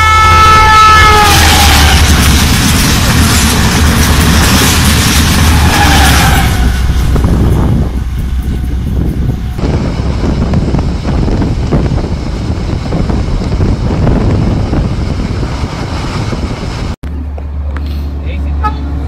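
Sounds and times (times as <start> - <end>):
train rumbling at speed: 0.0 - 19.0
wind rushing: 1.2 - 17.0.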